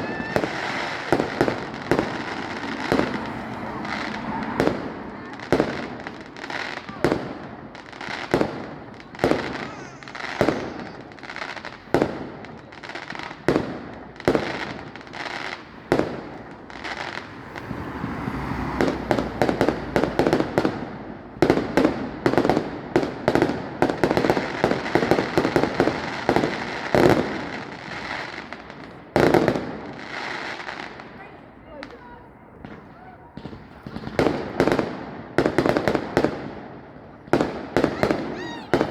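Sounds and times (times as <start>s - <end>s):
firework bangs: 0.0s - 38.9s
firework crackle: 0.0s - 38.9s.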